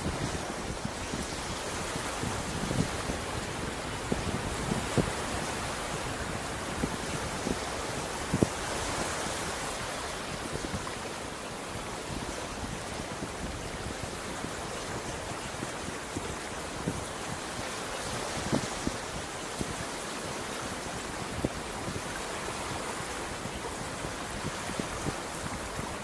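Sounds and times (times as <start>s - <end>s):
surf washing onto beach: 0.0s - 26.0s.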